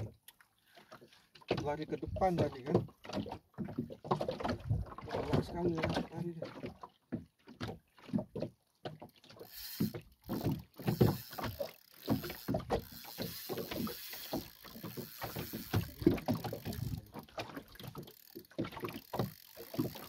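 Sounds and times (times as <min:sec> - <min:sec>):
water lapping against boat hull: 0:00.0 - 0:20.0.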